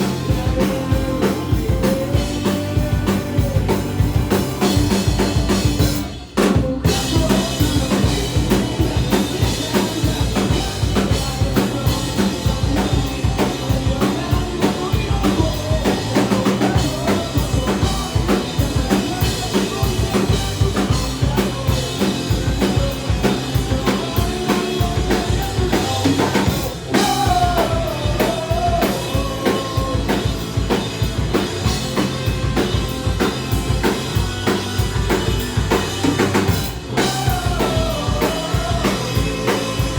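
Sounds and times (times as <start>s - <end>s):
fast drum kit: 0.0s - 39.9s
punk band playing live: 0.0s - 39.9s.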